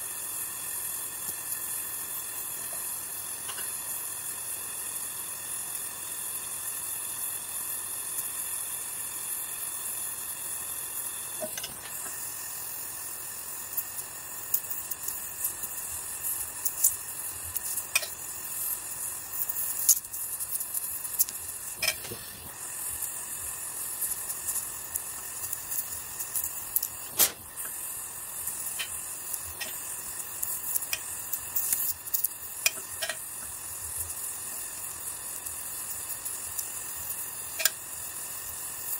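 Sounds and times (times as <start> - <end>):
crackles and pops of melting metal: 0.0 - 38.9
gas torch flame hissing: 0.0 - 38.9.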